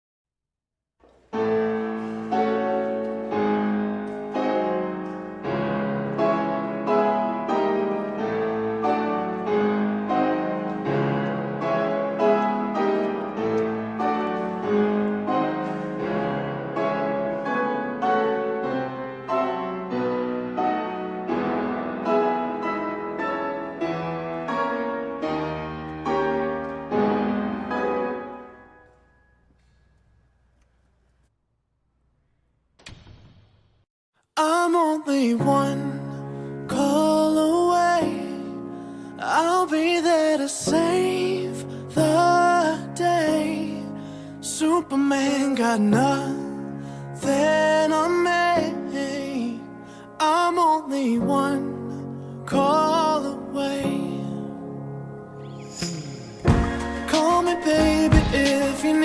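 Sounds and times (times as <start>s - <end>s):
solo piano music: 1.3s - 29.5s, 34.8s - 59.0s.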